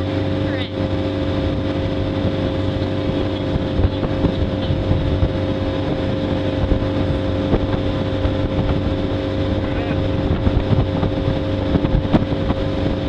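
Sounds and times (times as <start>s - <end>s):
boat engine humming: 0.0s - 13.0s
water rushing in wake: 0.0s - 13.0s.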